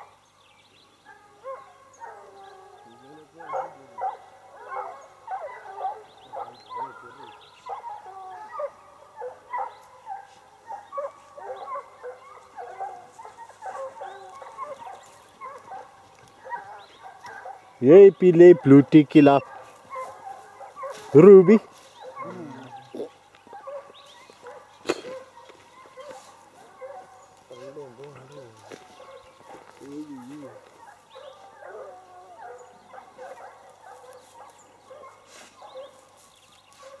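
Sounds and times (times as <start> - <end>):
hounds baying: 1.0 - 37.0.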